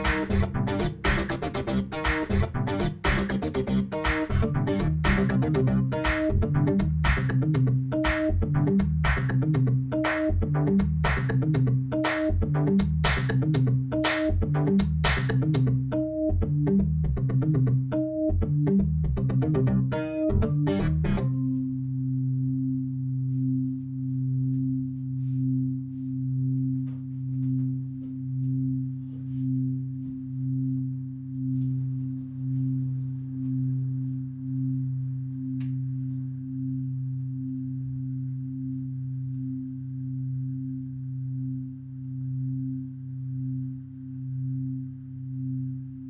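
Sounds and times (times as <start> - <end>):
low synthesizer drone: 0.0 - 46.0.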